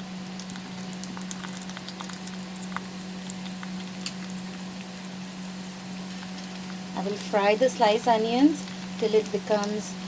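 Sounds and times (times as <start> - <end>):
oil popping and crackling: 0.0 - 7.3, 7.9 - 9.9
steady low hum: 0.0 - 10.0.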